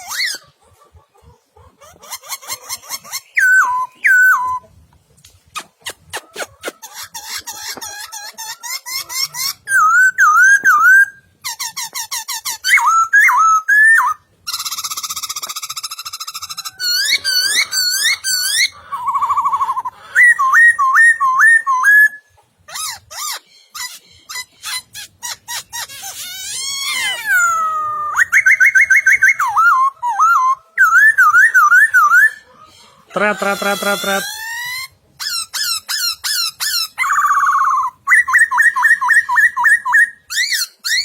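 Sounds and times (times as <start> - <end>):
bird singing varied song: 0.0 - 4.8, 6.8 - 41.0.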